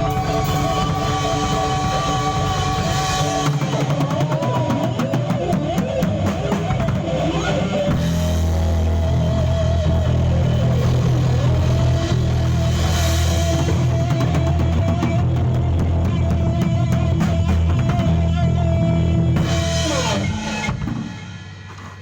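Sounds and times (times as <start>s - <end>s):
bass guitar: 0.0s - 22.0s
distorted electric guitar: 0.0s - 22.0s
drum kit: 0.0s - 22.0s.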